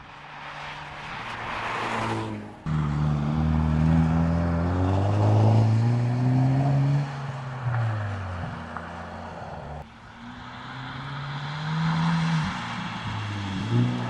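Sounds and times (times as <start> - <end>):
car engine accelerating: 0.4 - 14.0.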